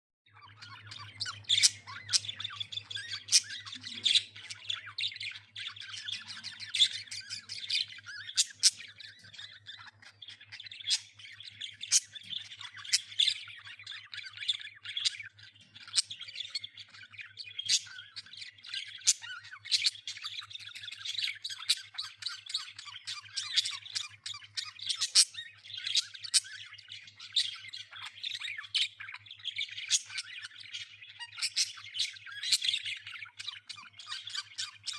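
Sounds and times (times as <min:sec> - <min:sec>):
budgerigars chattering and squawking: 0:00.3 - 0:34.9.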